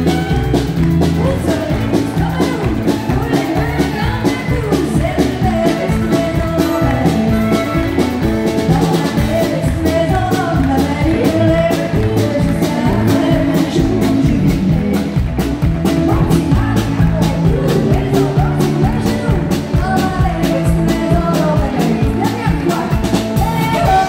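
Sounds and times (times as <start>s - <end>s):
country band playing: 0.0s - 24.0s
woman singing: 0.0s - 24.0s.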